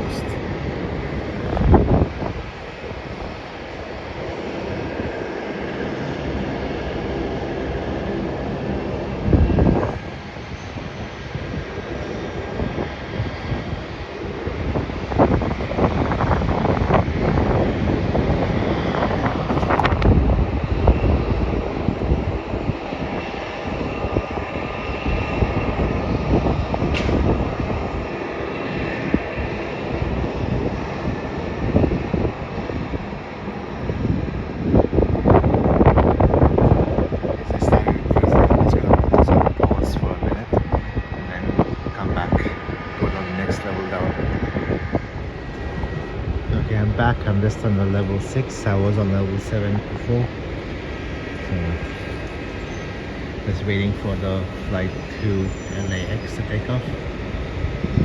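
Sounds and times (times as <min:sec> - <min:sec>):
distant jet engines rushing: 0:00.0 - 0:58.0
wind buffeting microphone: 0:00.0 - 0:58.0.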